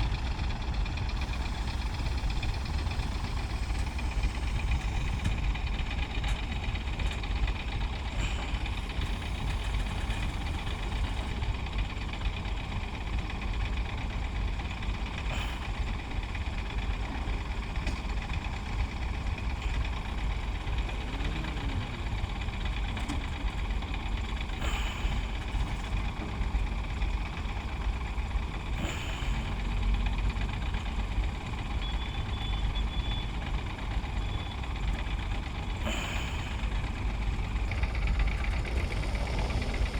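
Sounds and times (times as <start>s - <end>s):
heavy diesel engine rumbling: 0.0s - 39.9s.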